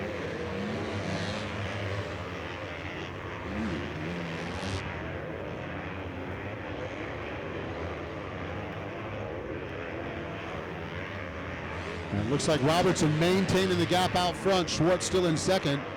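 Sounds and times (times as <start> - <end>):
motocross bike engines revving: 0.0 - 15.9.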